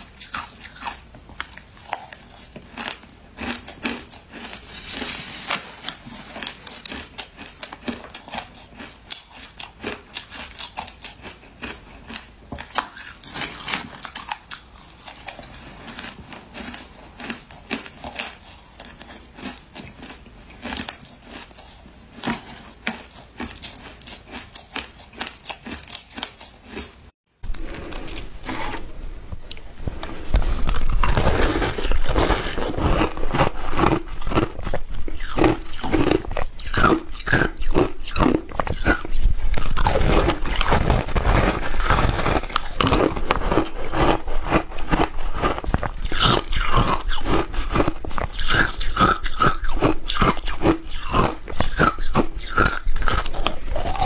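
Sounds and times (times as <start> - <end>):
ice crunching in mouth: 0.0 - 28.6, 30.2 - 54.0.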